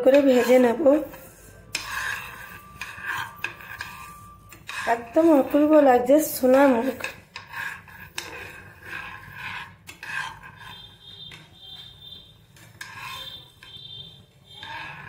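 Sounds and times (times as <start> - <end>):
lentils scraping in pan: 0.0 - 15.0.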